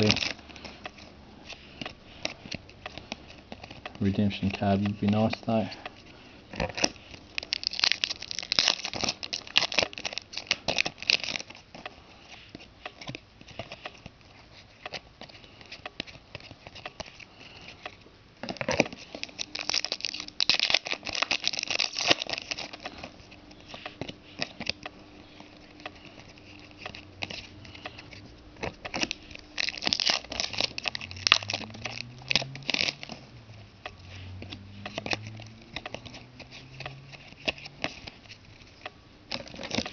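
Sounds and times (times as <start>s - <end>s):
card wrappers tearing and crinkling: 0.0s - 5.8s, 6.5s - 39.9s.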